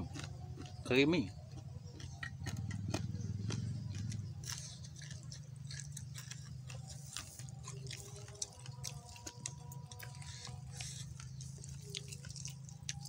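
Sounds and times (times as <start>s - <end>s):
chewing and eating sounds: 0.0s - 13.0s
steady low hum: 0.0s - 13.0s.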